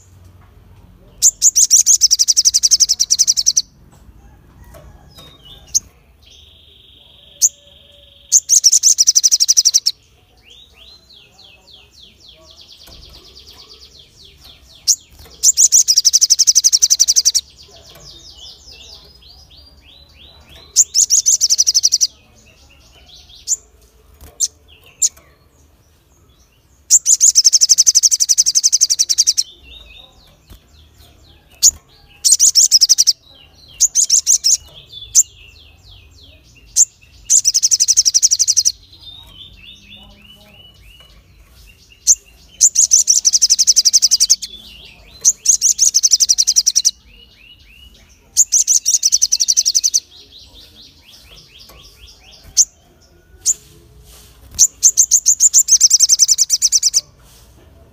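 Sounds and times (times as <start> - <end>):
soft bird chirps: 1.1 - 57.6.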